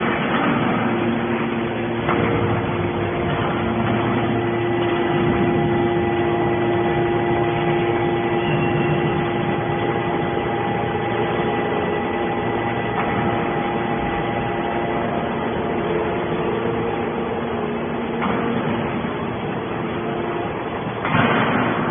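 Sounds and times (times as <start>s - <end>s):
baler machine hum: 0.0s - 21.9s
hydraulic unit whine: 0.0s - 21.9s.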